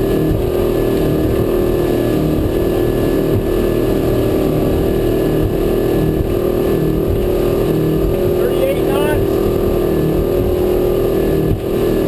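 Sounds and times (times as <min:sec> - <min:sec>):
boat engine droning: 0:00.0 - 0:12.0
water rushing along hull: 0:00.0 - 0:12.0.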